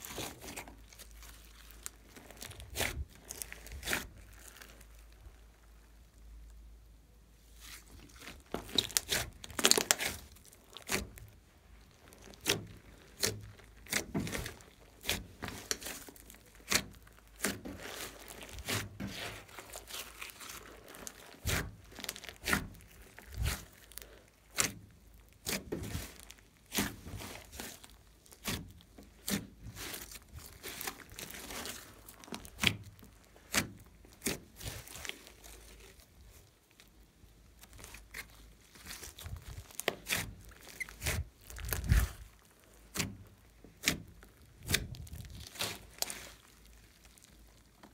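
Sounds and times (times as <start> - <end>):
slime squishing and popping: 0.0 - 6.1, 7.6 - 47.9.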